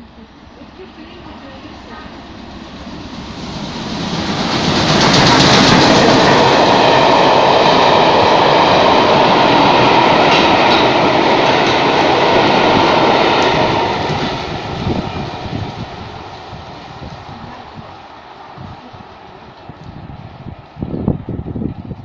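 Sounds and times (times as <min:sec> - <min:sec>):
steam train passing: 0:00.0 - 0:22.0.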